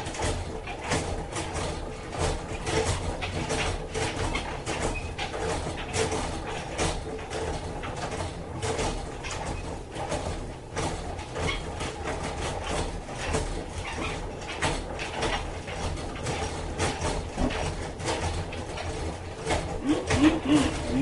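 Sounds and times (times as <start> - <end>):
mechanical clicking and clattering: 0.0 - 21.0.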